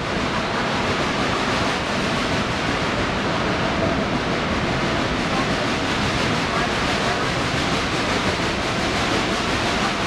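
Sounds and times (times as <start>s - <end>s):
steam locomotive working: 0.0s - 10.0s
train cars rolling on rails: 0.0s - 10.0s.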